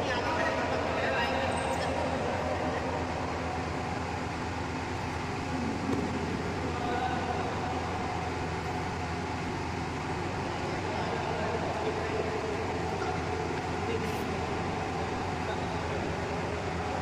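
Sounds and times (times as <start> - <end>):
indoor hall hum with hiss: 0.0 - 17.0.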